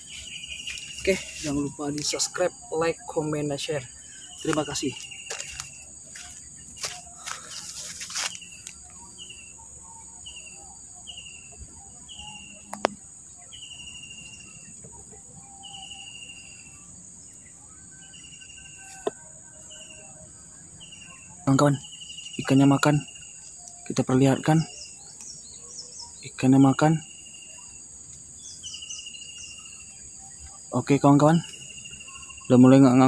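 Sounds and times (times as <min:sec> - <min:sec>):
insect chorus buzzing: 0:00.0 - 0:33.0.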